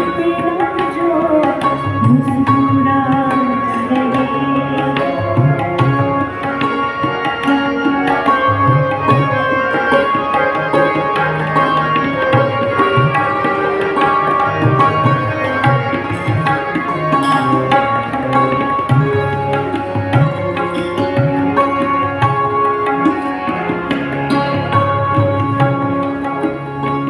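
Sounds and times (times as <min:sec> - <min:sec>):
sustained harmonium chords: 0:00.0 - 0:27.0
tabla playing a steady rhythm: 0:00.0 - 0:27.0.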